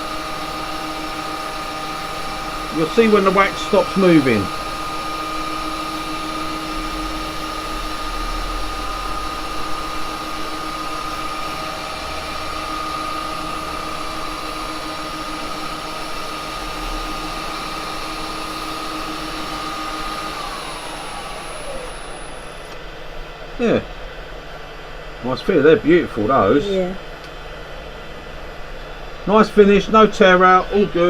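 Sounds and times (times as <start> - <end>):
wood lathe whining: 0.0 - 25.1.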